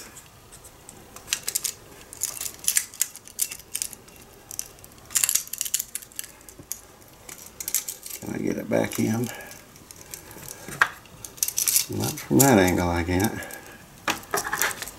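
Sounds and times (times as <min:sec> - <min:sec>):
metal parts clicking and scraping: 0:00.0 - 0:14.9.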